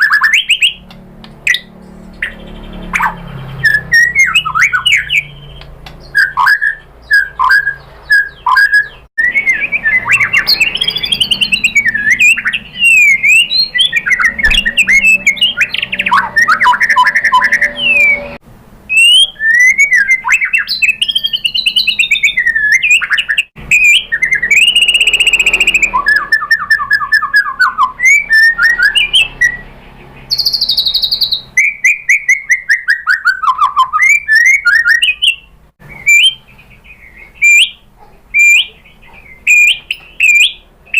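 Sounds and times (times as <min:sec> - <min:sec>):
songbird singing chirps and trills: 0:00.0 - 0:40.9.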